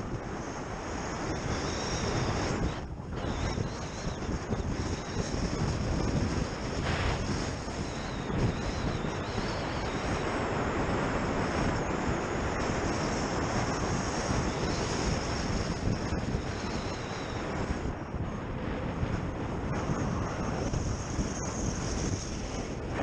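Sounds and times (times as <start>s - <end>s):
snowboard sliding over snow: 0.0s - 23.0s
wind buffeting microphone: 0.0s - 23.0s.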